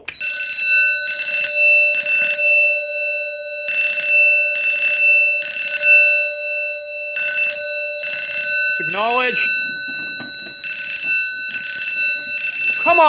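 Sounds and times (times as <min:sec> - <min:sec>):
fire alarm bell ringing: 0:00.0 - 0:13.0.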